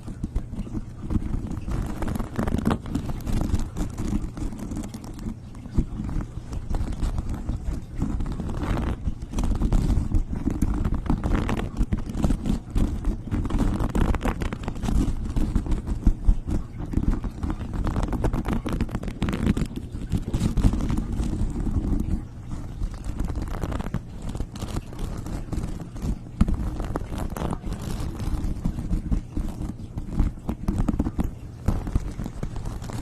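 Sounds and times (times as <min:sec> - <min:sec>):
tapping and rubbing: 0:00.0 - 0:33.0.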